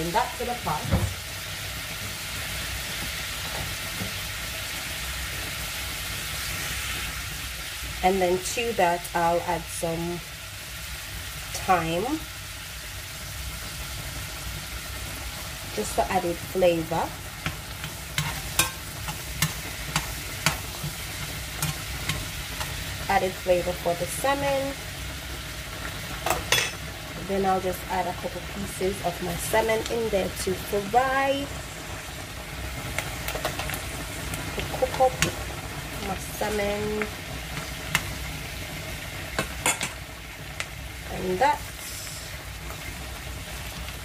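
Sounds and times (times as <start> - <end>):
garlic sizzling in butter: 0.0 - 44.0.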